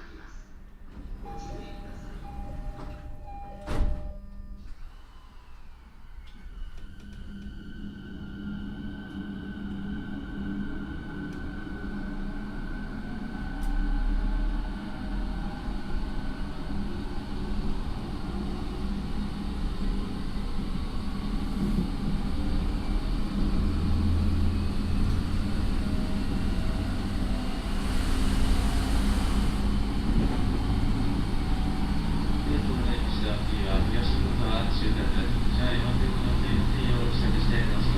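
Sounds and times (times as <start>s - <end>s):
train wheels rumbling on rail: 6.2s - 37.9s.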